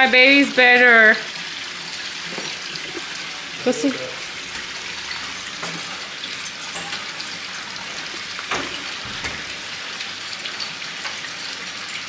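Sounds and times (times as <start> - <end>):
water pouring into a pool: 0.0 - 12.0.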